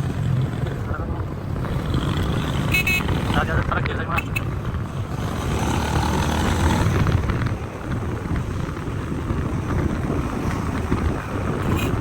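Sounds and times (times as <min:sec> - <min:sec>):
low rumble of moving vehicle: 0:00.0 - 0:12.0
wind buffeting microphone: 0:00.0 - 0:12.0.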